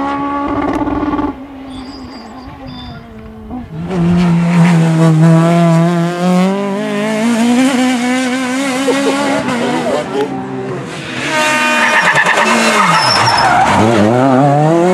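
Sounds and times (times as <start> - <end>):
car engine at high revs: 0.0 - 1.8, 3.0 - 14.9.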